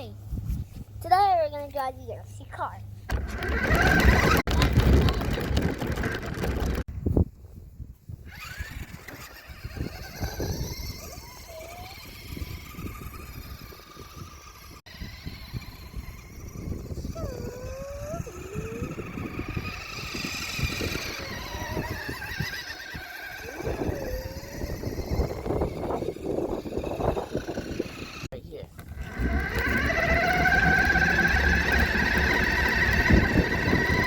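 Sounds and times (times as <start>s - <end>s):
toy car motor running: 3.1s - 6.8s, 8.2s - 34.0s.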